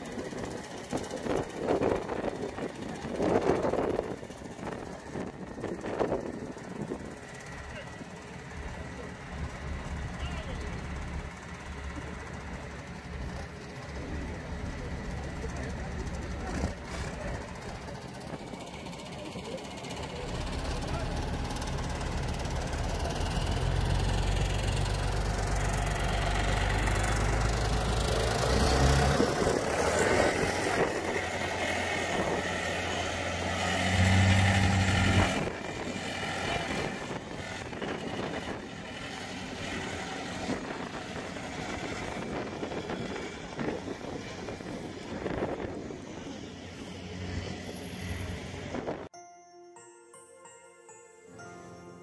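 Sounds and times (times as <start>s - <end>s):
road noise: 0.0s - 49.1s
tractor diesel engine drone: 0.0s - 49.1s.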